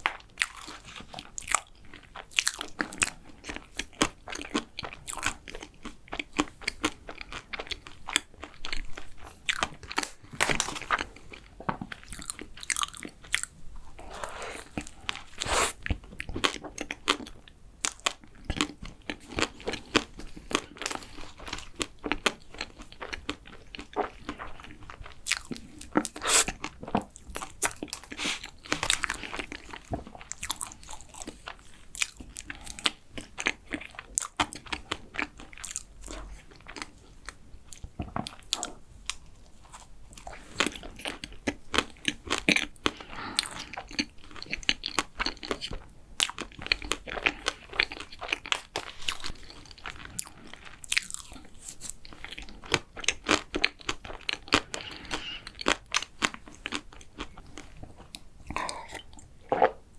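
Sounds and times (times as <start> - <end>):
chewing and biting: 0.0 - 59.8.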